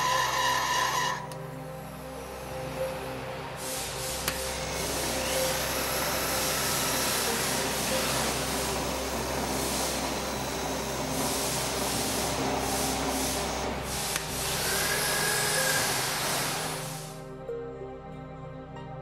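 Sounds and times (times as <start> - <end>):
lathe whirring: 0.0 - 17.2.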